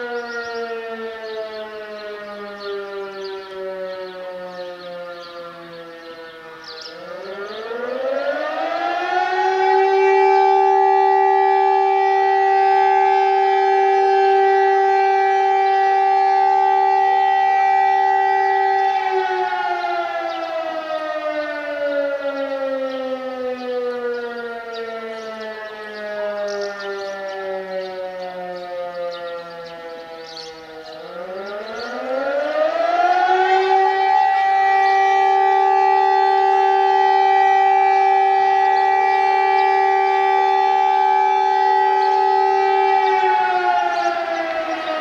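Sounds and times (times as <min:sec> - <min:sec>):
electromechanical fire siren wailing: 0:00.0 - 0:45.0.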